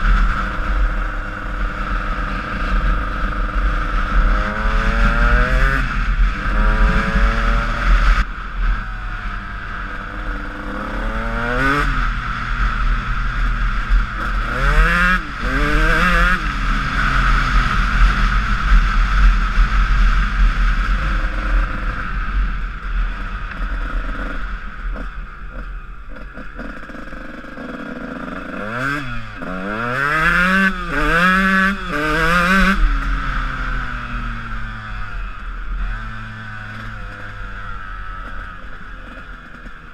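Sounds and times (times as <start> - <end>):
motocross engine revving and shifting: 0.0 - 8.8, 9.8 - 19.3, 23.4 - 39.9.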